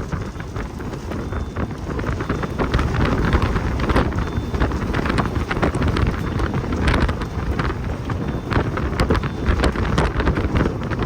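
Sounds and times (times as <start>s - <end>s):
wind gusting across microphone: 0.0s - 11.0s.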